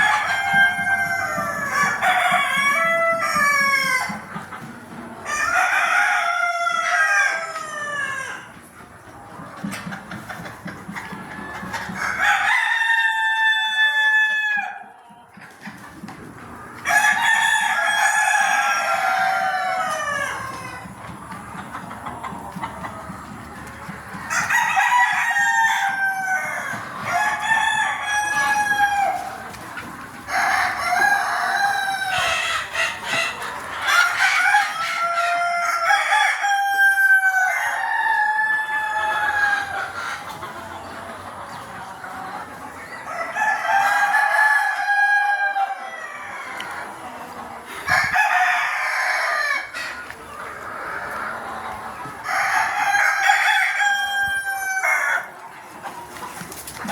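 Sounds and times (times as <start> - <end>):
roosters crowing: 0.0 - 8.6, 11.0 - 15.1, 16.5 - 55.7
hens clucking: 0.0 - 56.9.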